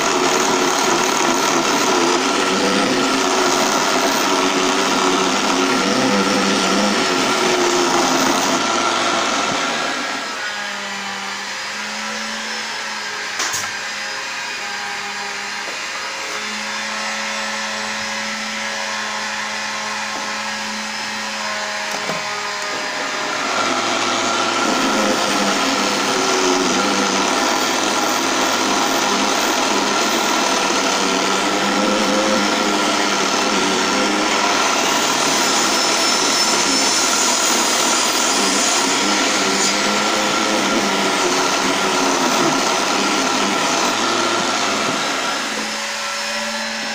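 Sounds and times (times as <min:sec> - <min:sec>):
rasp scraping spinning wood: 0:00.0 - 0:10.3, 0:19.5 - 0:46.9
wood lathe motor hum: 0:00.0 - 0:46.9.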